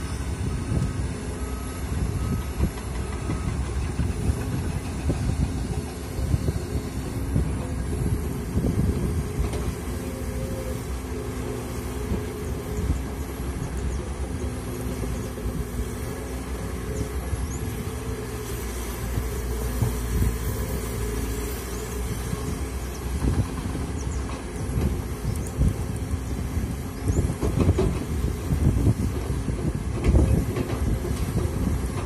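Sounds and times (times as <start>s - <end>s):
excavator engine and hydraulics: 0.0s - 32.0s.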